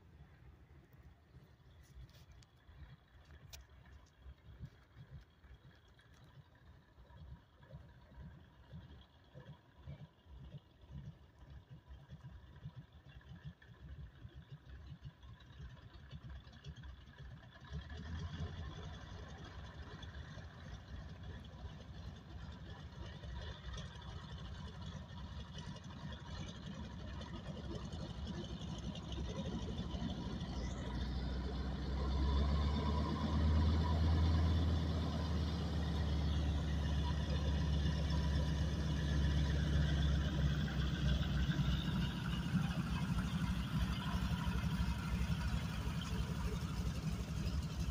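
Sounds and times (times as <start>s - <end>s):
biplane engine and propeller: 0.0s - 47.9s.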